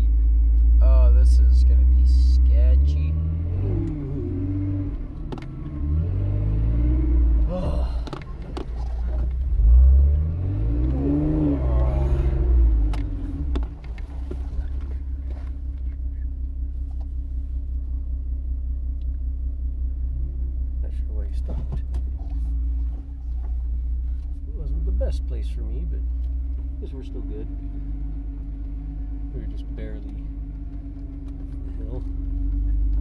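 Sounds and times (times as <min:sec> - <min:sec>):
off-road vehicle engine revving: 0:00.0 - 0:16.8, 0:19.7 - 0:33.0.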